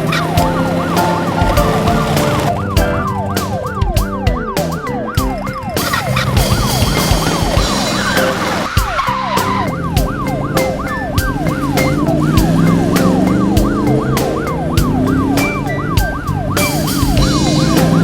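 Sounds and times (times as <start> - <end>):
background music: 0.0 - 18.0
siren wailing: 0.0 - 18.0.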